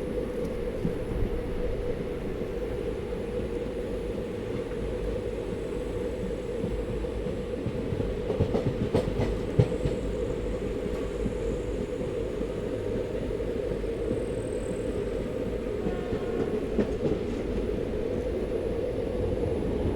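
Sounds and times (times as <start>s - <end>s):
train rumbling on track: 0.0s - 19.9s.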